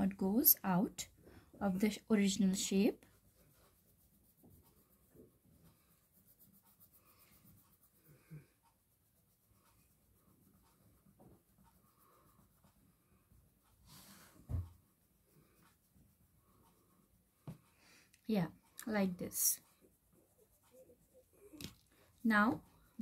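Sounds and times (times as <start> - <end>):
crayon scratching on paper: 1.7 - 17.6, 18.3 - 23.0.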